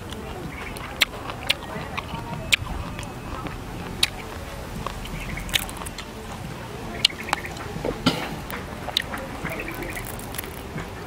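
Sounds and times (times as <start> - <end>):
crickets crackling and snapping: 0.0 - 7.8, 8.4 - 11.0.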